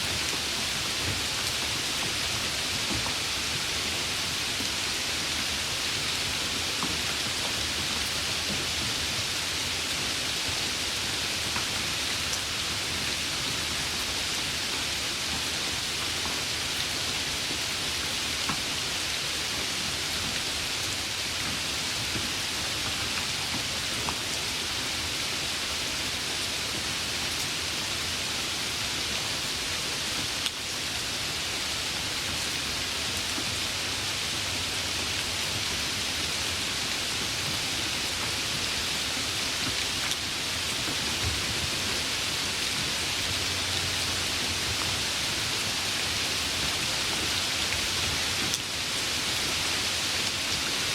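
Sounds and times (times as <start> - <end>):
heavy rain hissing: 0.0 - 50.9.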